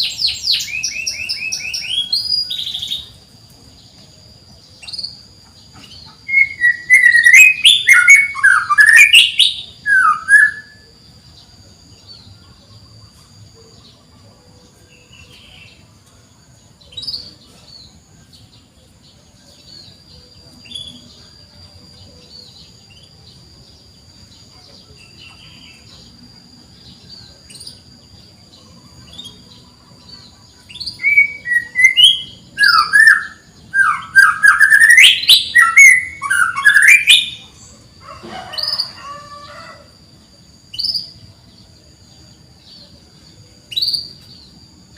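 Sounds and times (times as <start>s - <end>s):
canary singing chirps: 0.0s - 44.9s.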